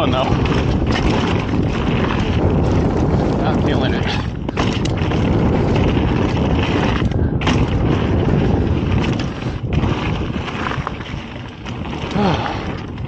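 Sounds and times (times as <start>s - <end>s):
bike knocks and rattles: 0.0s - 13.0s
bike tyres rumbling on dirt: 0.0s - 13.0s
wind buffeting microphone: 0.0s - 13.0s.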